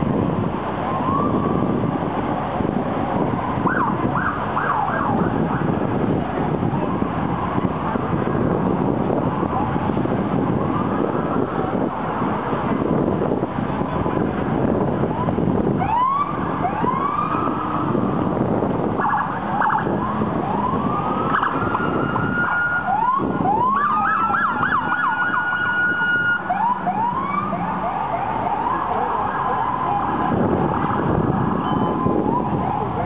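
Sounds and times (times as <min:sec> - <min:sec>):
city traffic noise: 0:00.0 - 0:33.0
police car siren: 0:00.0 - 0:33.0.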